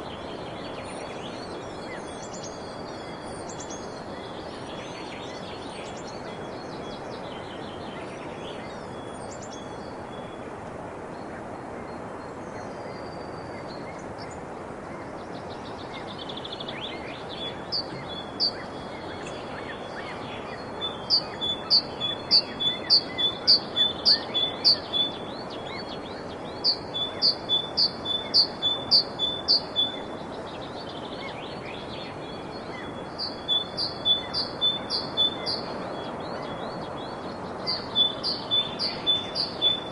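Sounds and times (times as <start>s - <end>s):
songbird chirping: 0.0s - 10.5s, 11.2s - 39.9s
background hiss: 0.0s - 39.9s.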